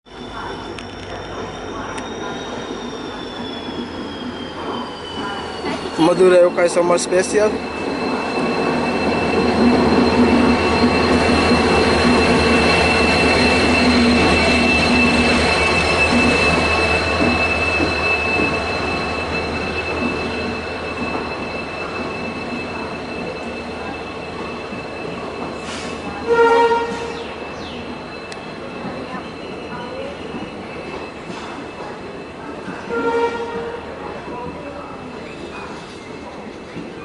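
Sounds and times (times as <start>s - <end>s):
loud pitched tone: 0.1s - 30.9s
wheels squealing on track: 0.1s - 36.9s
train rumbling: 0.1s - 37.0s.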